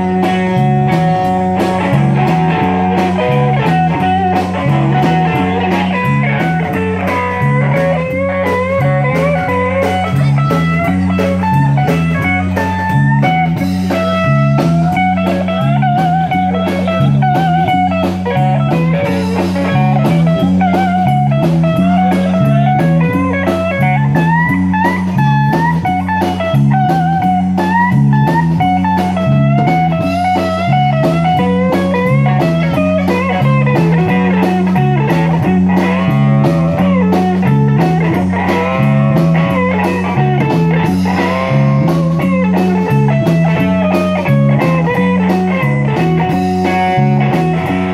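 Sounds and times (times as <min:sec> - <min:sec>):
bass line: 0:00.0 - 0:47.9
electric guitar solo: 0:00.0 - 0:47.9
steady drums: 0:00.0 - 0:47.9.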